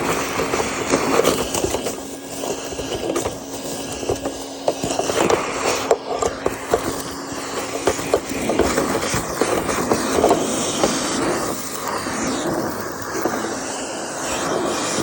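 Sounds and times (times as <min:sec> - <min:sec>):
debris rattling up hose: 0:00.0 - 0:15.0
vacuum running with rushing hiss: 0:00.0 - 0:15.0.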